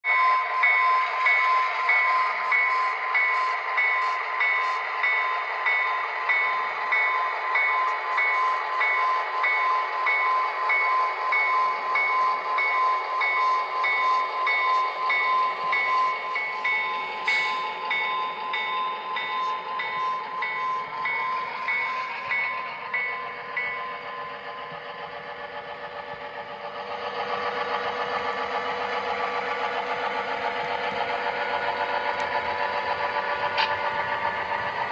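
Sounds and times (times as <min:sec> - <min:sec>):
pulsing model locomotive engine: 0:00.0 - 0:34.9.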